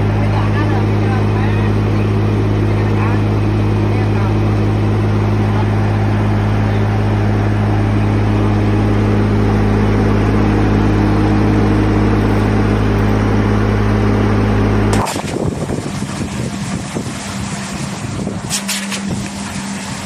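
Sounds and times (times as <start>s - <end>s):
rough outdoor noise: 0.0s - 20.0s
truck engine droning: 0.0s - 20.0s.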